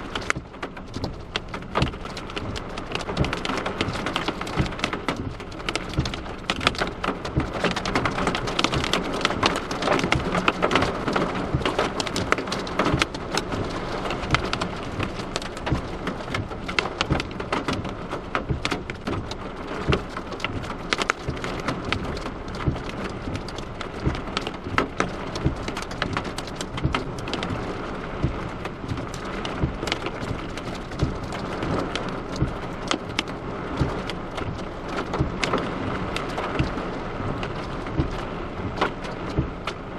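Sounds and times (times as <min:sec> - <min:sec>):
heavy rain and hail: 0:00.0 - 0:39.9.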